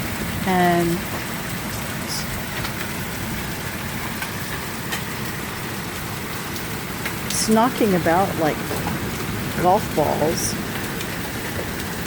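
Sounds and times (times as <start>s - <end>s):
heavy rain hissing: 0.0s - 12.0s
hailstones knocking: 1.0s - 12.0s.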